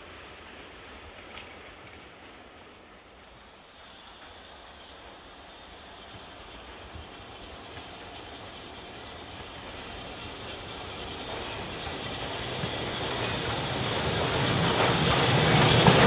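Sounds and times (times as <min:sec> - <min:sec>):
steam train approaching: 0:00.0 - 0:16.0.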